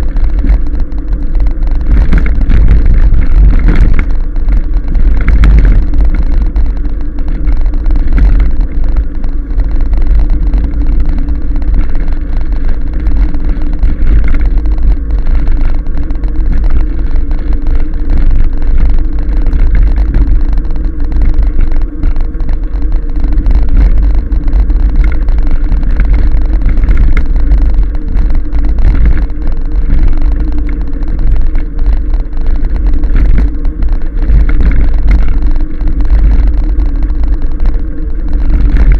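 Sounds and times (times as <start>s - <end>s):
tyre and road noise: 0.0s - 38.9s
wind buffeting microphone: 0.0s - 38.9s.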